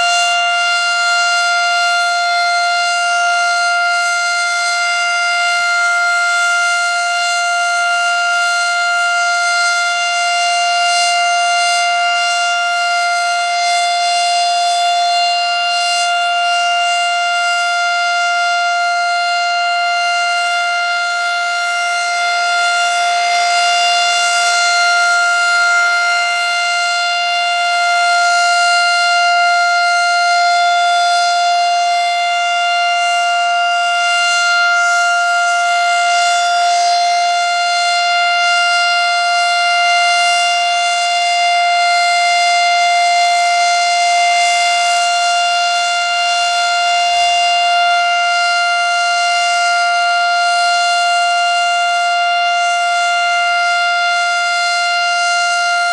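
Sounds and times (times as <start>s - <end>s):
siren steady tone: 0.0s - 55.9s.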